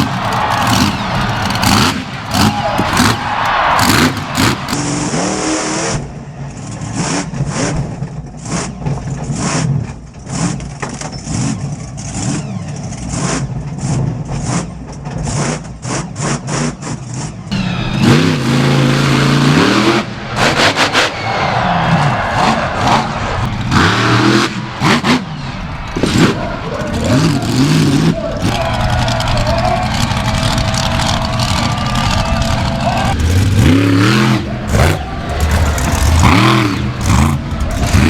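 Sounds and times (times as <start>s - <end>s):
monster truck engines revving: 0.0s - 38.0s.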